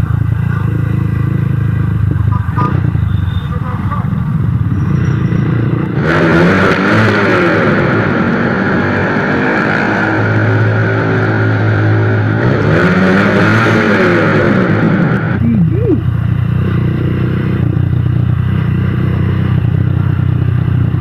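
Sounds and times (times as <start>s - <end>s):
motorcycle engine revving: 0.0s - 21.0s
road noise in tunnel: 0.0s - 21.0s.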